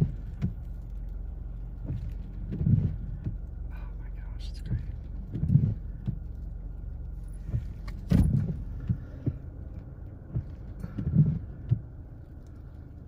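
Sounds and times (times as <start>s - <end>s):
car engine idling: 0.0s - 13.0s
soft low thumps: 0.0s - 13.0s.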